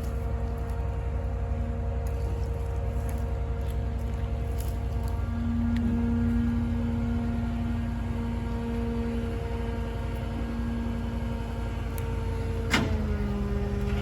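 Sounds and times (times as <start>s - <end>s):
heavy engine rumbling and whining: 0.0s - 14.0s.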